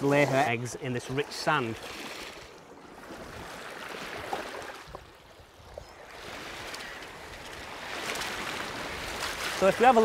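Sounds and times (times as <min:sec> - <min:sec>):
small waves lapping shoreline: 0:00.0 - 0:10.0.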